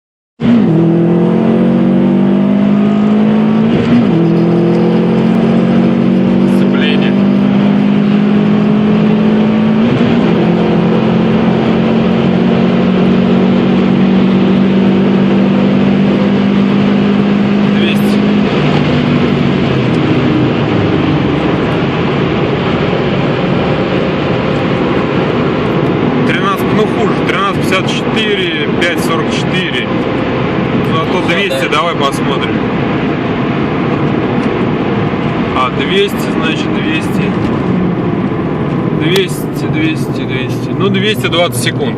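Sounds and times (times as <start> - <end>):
car engine pulling hard: 0.4 - 41.9
road noise: 0.4 - 41.9.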